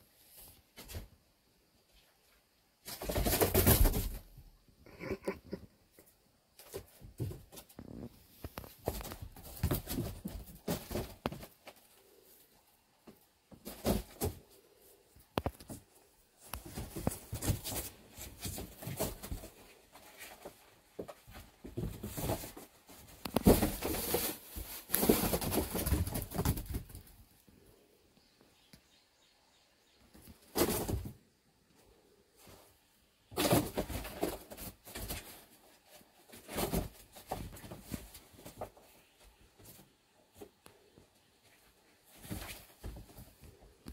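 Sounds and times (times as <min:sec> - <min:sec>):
kittens scrambling and scuffling: 0:01.8 - 0:27.9, 0:30.1 - 0:43.9.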